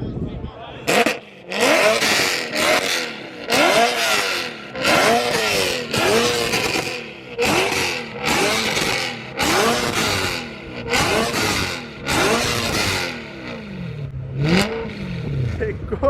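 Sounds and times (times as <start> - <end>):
car engine revving: 0.7 - 16.0.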